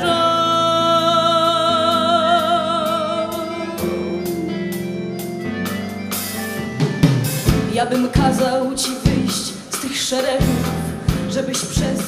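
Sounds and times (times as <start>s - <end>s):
sustained organ-like keyboard chords: 0.0s - 9.7s.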